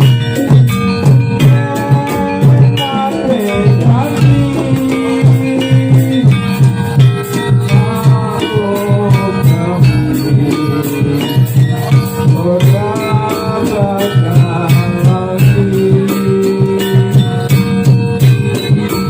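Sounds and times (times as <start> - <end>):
drums beating: 0.0 - 19.0
gliding melodic line: 0.0 - 19.0
jingling bells and rattles: 0.0 - 19.0.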